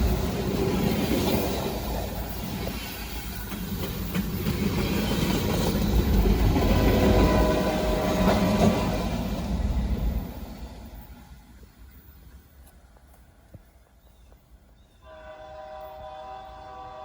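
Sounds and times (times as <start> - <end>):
wheels clacking on rail joints: 0.0 - 14.5
train rumbling past: 0.0 - 17.0.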